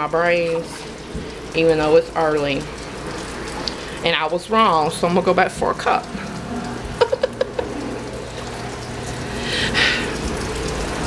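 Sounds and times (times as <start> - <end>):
water running from tap: 0.0 - 11.0.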